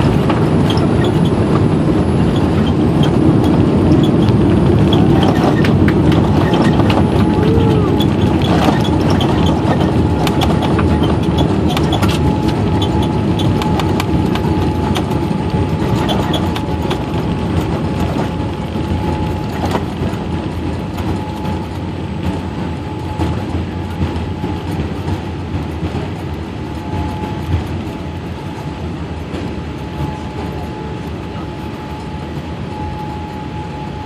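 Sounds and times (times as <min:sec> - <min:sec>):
engine and wheel rumble: 0:00.0 - 0:34.0.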